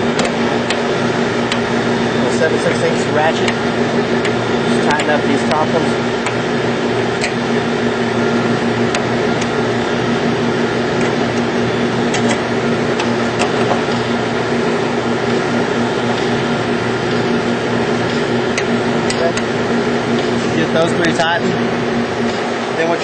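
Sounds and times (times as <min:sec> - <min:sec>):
fan machinery hum: 0:00.0 - 0:23.0.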